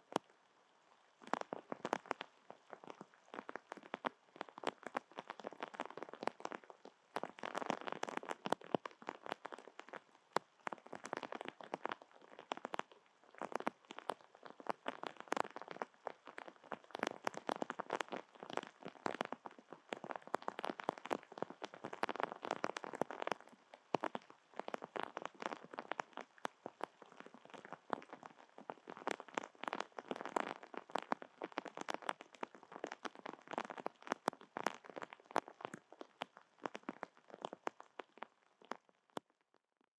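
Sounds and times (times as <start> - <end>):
raindrops ticking on surface: 0.0 - 39.4.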